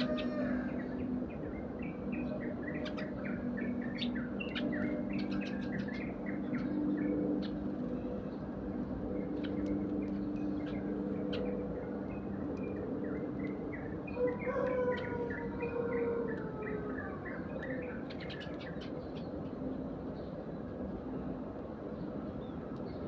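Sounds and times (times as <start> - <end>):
sparrows chirping: 0.0 - 23.0
steady low hum: 0.0 - 23.0.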